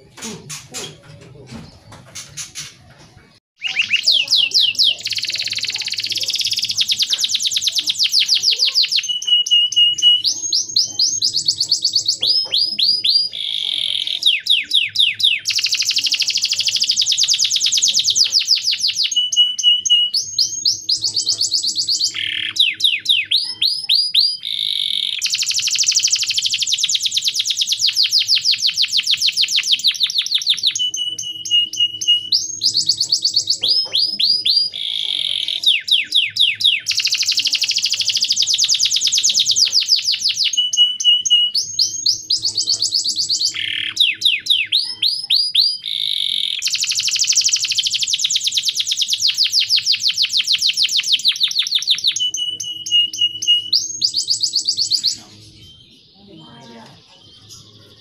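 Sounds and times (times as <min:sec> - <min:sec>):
canary singing in trills: 0:00.0 - 0:58.0.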